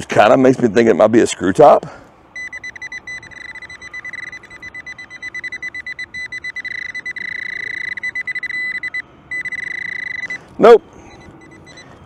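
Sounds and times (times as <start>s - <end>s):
pinpointer high-pitched beeping: 2.3s - 12.0s.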